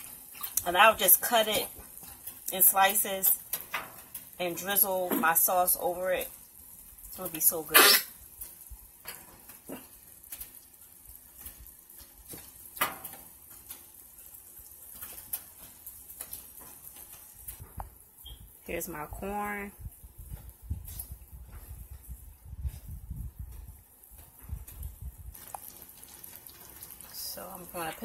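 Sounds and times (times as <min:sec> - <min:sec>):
water boiling hard in a pan: 0:00.0 - 0:28.0.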